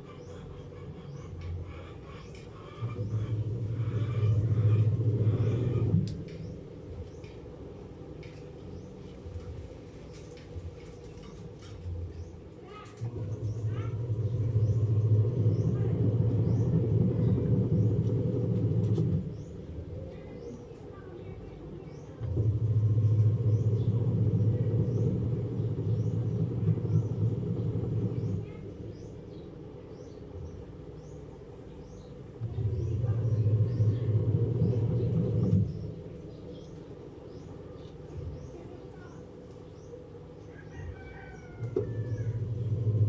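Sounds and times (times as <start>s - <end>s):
small birds chirping: 0.0s - 43.0s
washing machine motor humming: 0.0s - 43.0s.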